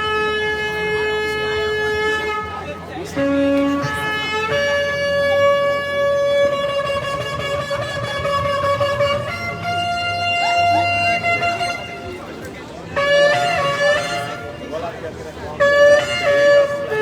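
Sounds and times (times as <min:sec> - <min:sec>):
shofar blasts: 0:00.0 - 0:17.0.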